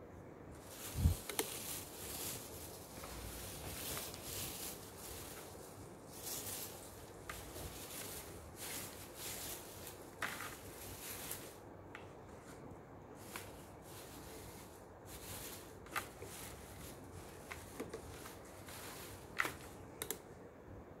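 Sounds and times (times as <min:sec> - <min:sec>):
paper filler rustling: 0:00.6 - 0:11.6, 0:13.2 - 0:19.8
sharp paper crackles: 0:00.6 - 0:11.6, 0:13.2 - 0:19.8.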